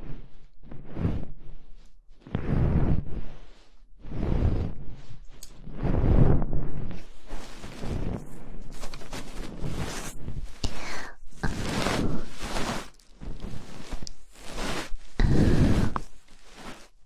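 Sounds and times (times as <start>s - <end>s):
breath-like swishes: 0.0s - 17.0s
rustling on microphone: 0.0s - 17.0s.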